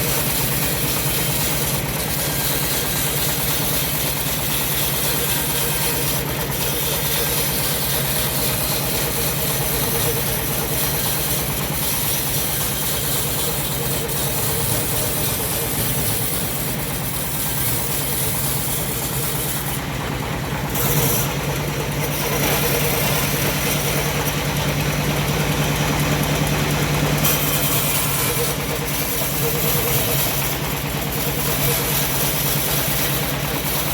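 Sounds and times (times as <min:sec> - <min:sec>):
bandsaw blade hissing: 0:00.0 - 0:19.9, 0:20.6 - 0:33.9
engine low beat: 0:00.0 - 0:33.9.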